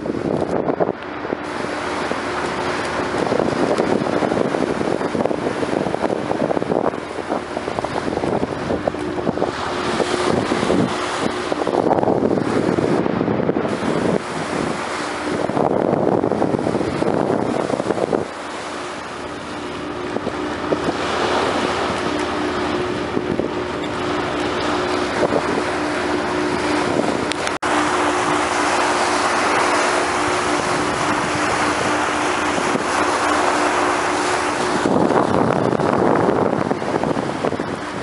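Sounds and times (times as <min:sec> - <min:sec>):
water rushing at bow: 0:00.0 - 0:38.0
wind buffeting microphone: 0:00.0 - 0:38.0.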